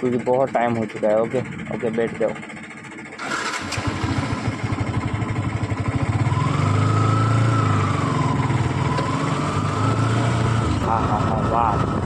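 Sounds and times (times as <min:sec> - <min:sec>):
motorcycle engine idling: 0:00.0 - 0:09.0, 0:10.4 - 0:12.0.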